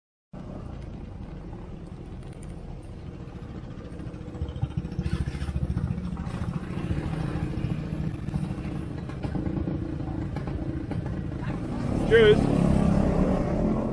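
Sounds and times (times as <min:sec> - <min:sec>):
scooter engines running: 0:00.4 - 0:13.9.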